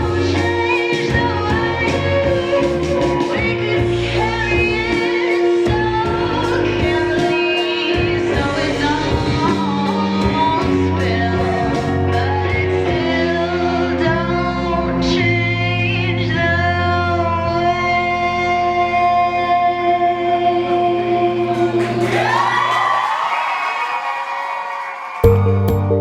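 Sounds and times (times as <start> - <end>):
instrumental backing with low bass: 0.0 - 21.6, 25.2 - 26.0.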